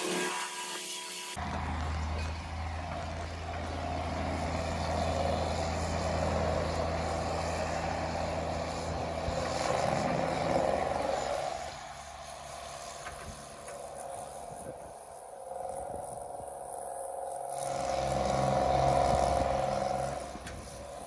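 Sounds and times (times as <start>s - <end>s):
excavator running: 0.0s - 21.0s
tractor running: 1.0s - 21.0s.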